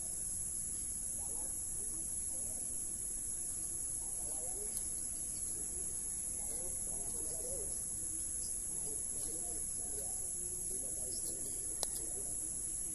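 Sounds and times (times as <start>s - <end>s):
faint wavering calls: 0.0s - 12.9s
high-pitched insect drone: 0.0s - 12.9s.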